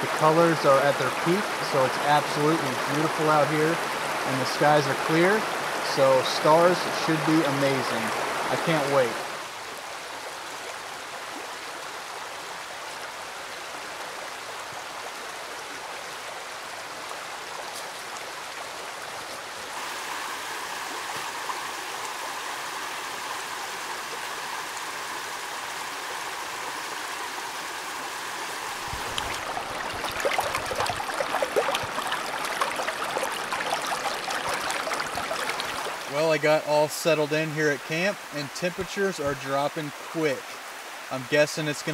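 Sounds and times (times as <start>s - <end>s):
creek flowing: 0.0s - 41.9s.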